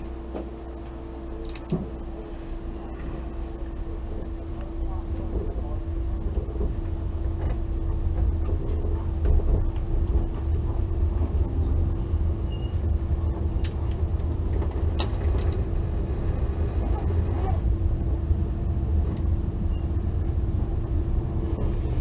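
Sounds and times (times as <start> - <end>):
train rumble from inside coach: 0.0 - 22.0.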